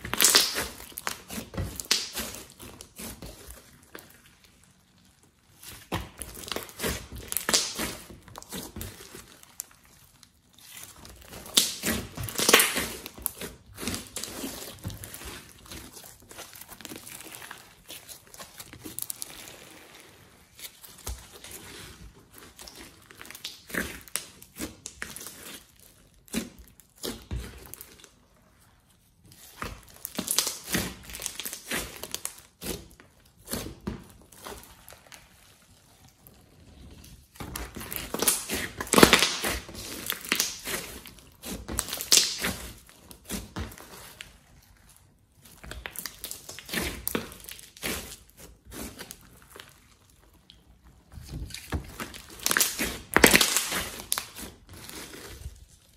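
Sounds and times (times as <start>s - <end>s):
hands squishing sticky slime: 0.0s - 55.9s.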